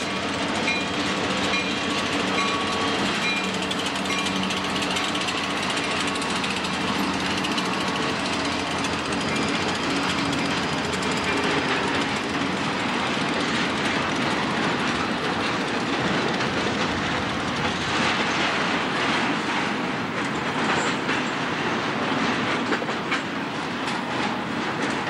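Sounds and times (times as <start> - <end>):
steel wheels on rail: 0.0 - 25.0
wheels clicking over rail joints: 0.0 - 25.0.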